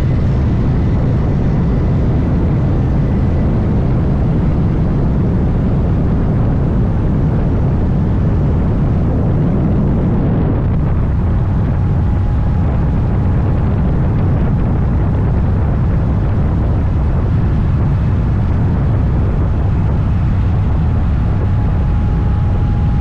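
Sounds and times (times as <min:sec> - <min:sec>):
motorcycle engine drone: 0:00.0 - 0:23.0
wind rush on microphone: 0:00.0 - 0:23.0.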